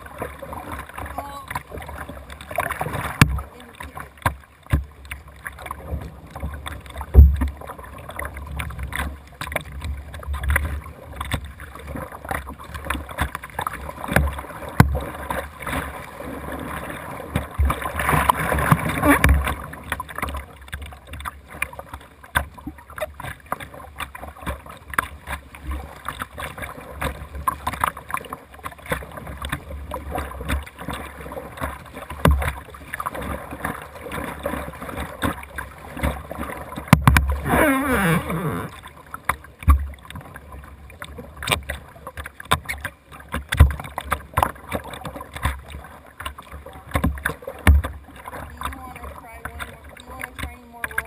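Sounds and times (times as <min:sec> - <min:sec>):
paddle splashing in water: 0:00.0 - 0:51.0.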